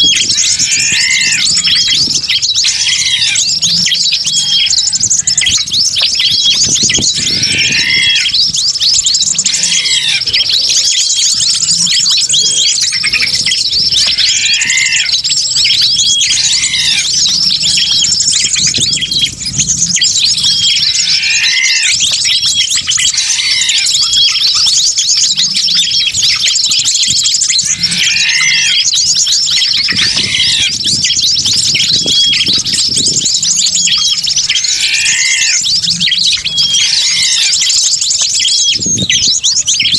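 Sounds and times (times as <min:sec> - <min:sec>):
repeating arched bird call: 0:00.0 - 0:39.9
small birds chirping and squawking: 0:00.0 - 0:39.9.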